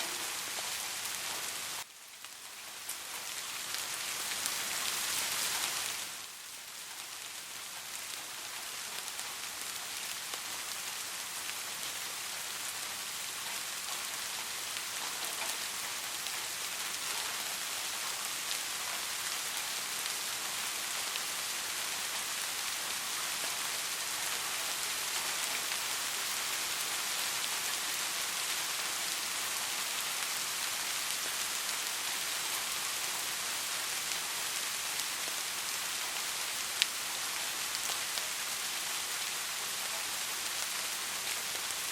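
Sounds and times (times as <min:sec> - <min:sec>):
soft steady rain: 0:00.0 - 0:41.9.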